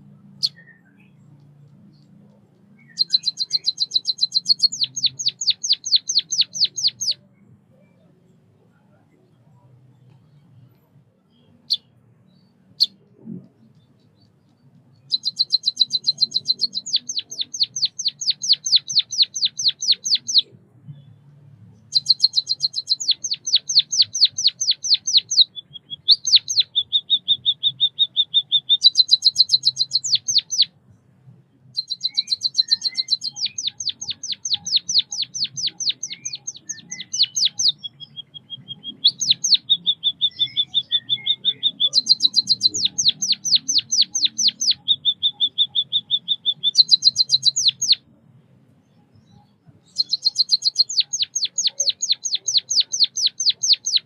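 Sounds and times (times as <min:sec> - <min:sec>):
bird chirping rapidly: 0:00.3 - 0:07.3, 0:11.3 - 0:13.0, 0:13.7 - 0:20.6, 0:21.8 - 0:30.8, 0:31.6 - 0:48.2, 0:48.9 - 0:54.0.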